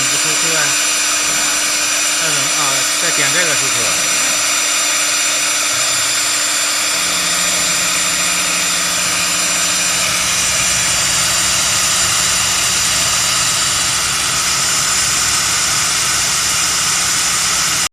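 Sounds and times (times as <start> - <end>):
low hum: 0.0 - 17.2
router high whine: 0.0 - 17.9.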